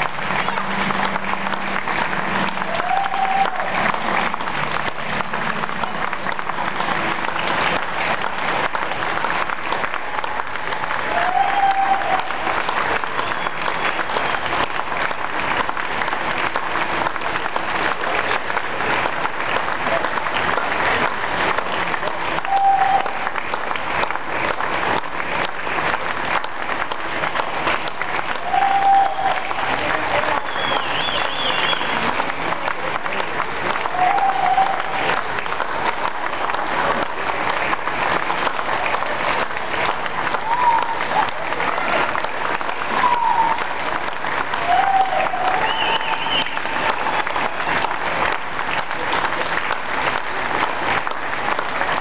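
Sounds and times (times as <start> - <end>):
large crowd applauding: 0.0 - 52.0.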